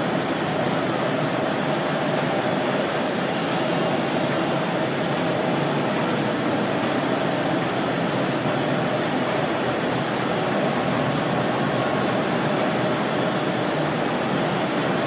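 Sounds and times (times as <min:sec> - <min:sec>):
conveyor and machine motors: 0:00.0 - 0:15.0.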